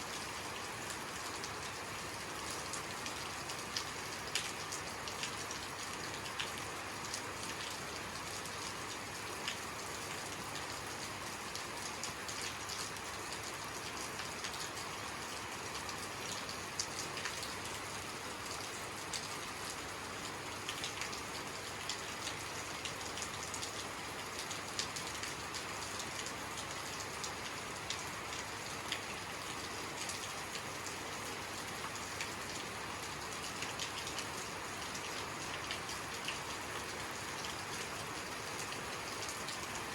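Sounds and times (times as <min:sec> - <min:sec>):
rain falling: 0:00.0 - 0:39.9
raindrops ticking on a surface: 0:00.1 - 0:39.9.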